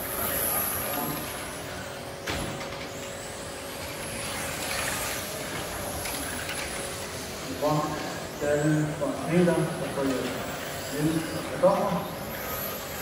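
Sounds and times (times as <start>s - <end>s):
rc cars high-pitched whine: 0.0s - 13.0s.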